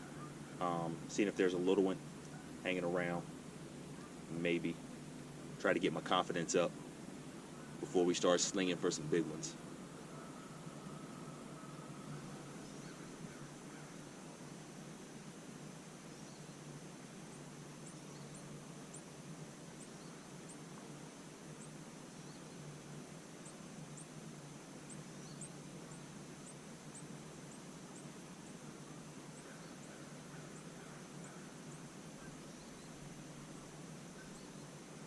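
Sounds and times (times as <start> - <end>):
soft hiss: 0.0 - 35.0.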